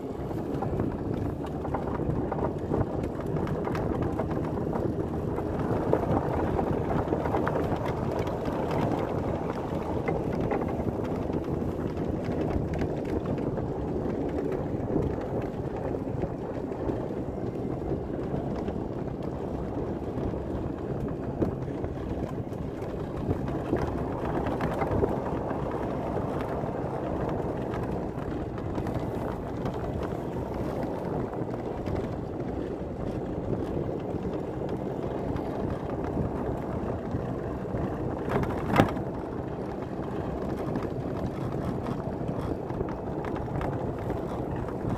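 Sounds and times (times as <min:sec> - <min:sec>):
golf cart running: 0:00.0 - 0:44.9
wind on microphone: 0:00.0 - 0:44.9.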